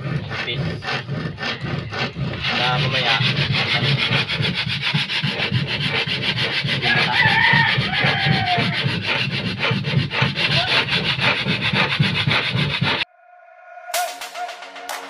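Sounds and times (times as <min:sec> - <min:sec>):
sandpaper rubbing on wood: 0:00.0 - 0:13.0.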